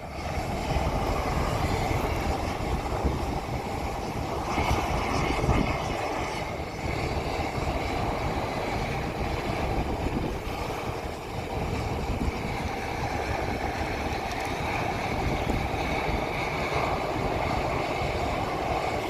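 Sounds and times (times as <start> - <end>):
combine harvester running: 0.0 - 19.0
wind rumbling on microphone: 0.0 - 19.0.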